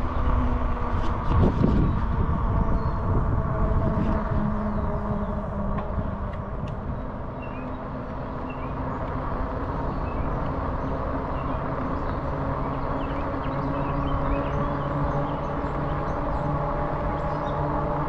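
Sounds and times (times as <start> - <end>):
wind and tyres rumbling: 0.0 - 18.0.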